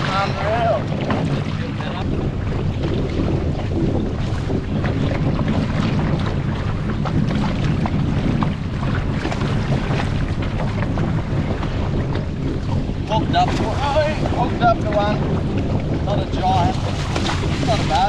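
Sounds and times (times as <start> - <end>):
water splashing: 0.0 - 18.0
wind buffeting microphone: 0.0 - 18.0.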